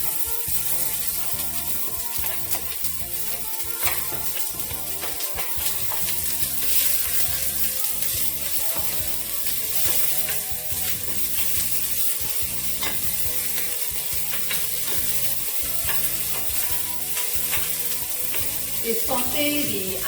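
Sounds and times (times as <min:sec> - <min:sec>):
utensil scraping pan: 0:00.0 - 0:20.0
vegetables sizzling in oil: 0:00.0 - 0:20.0.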